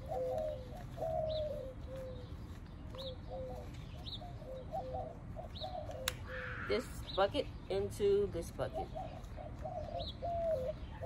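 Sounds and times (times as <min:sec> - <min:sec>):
dove cooing: 0:00.0 - 0:07.0, 0:08.3 - 0:11.0
small bird chirping: 0:00.0 - 0:11.0.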